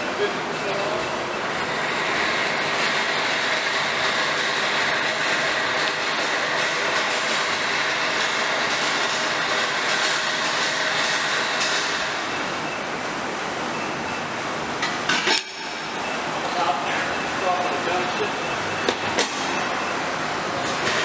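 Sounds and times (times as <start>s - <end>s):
loud rushing mechanical noise: 0.0s - 21.0s.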